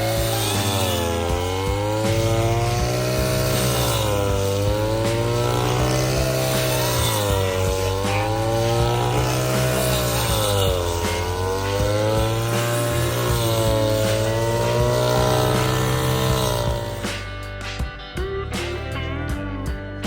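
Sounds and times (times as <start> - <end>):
lawn mower engine running: 0.0 - 17.8.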